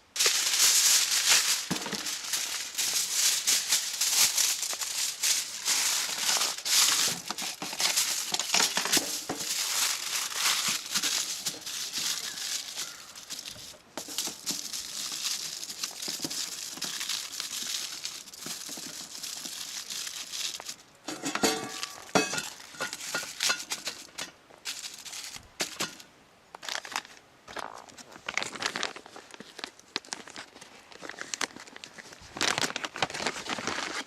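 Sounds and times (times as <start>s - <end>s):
crinkling and rustling: 0.0s - 34.0s.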